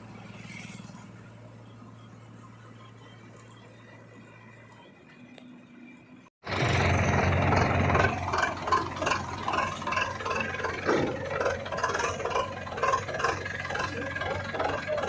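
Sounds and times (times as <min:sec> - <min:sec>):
heavy diesel machinery running: 0:01.4 - 0:15.0.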